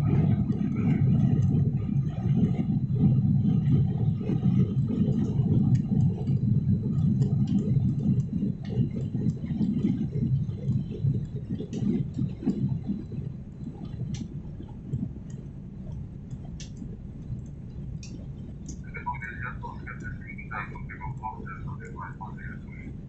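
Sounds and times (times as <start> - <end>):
airliner cabin rumble: 0.0 - 23.0
small clicks and rattles: 0.2 - 23.0.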